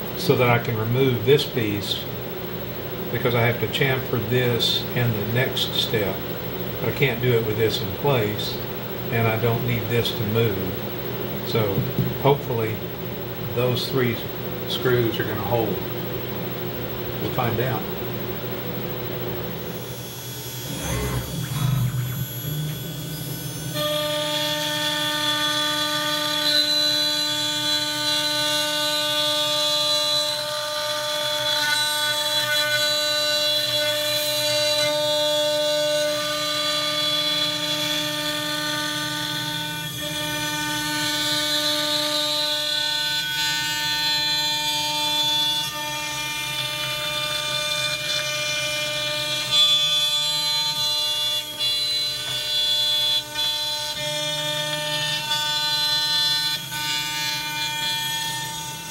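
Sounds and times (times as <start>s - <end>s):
router spindle whine: 0.0s - 58.9s.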